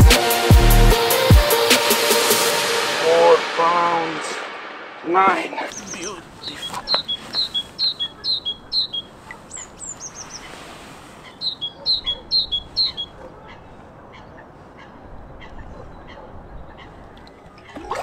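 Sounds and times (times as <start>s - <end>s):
descending bird call: 3.0s - 17.9s.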